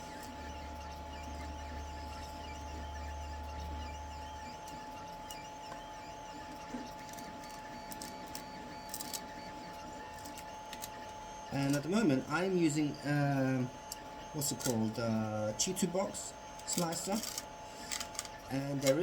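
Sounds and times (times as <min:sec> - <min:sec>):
machine whine: 0:00.0 - 0:19.0.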